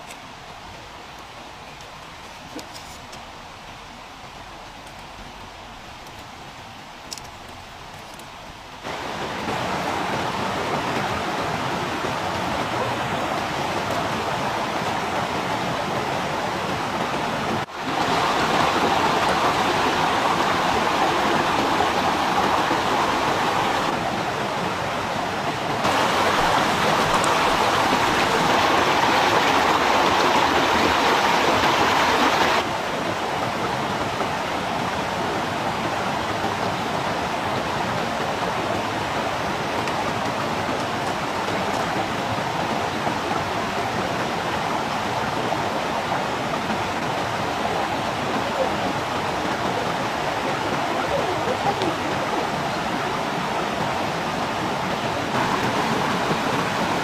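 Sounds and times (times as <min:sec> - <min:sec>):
water-like rushing noise: 0:00.0 - 0:57.0.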